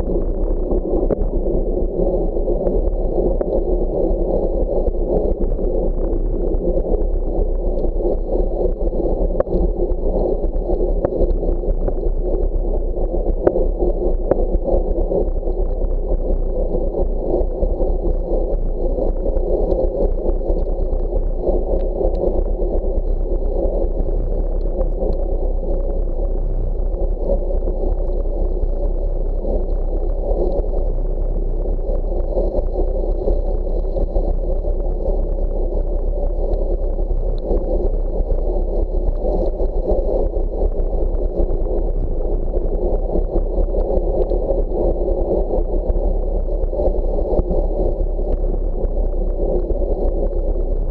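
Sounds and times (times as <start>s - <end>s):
muffled wind rush: 0.0s - 50.9s.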